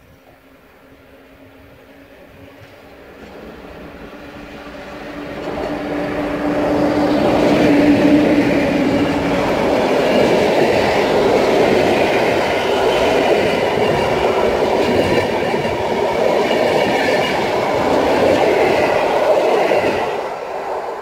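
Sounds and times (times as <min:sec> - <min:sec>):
train coaches rolling past: 0:00.0 - 0:21.0.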